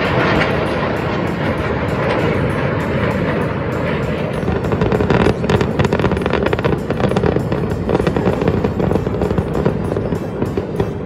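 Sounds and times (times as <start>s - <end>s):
dense steady crackle: 0.0s - 11.0s
jet roar passing over: 0.0s - 11.0s.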